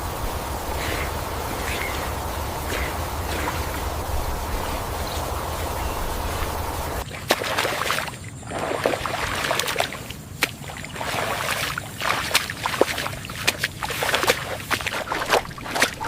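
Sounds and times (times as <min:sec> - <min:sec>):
steady hiss with low rumble: 0:00.0 - 0:16.0
water splashing and sloshing: 0:00.0 - 0:16.0.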